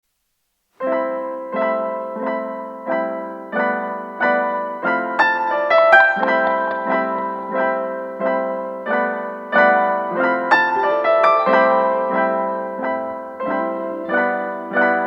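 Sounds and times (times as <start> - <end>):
piano music: 0.8 - 15.0.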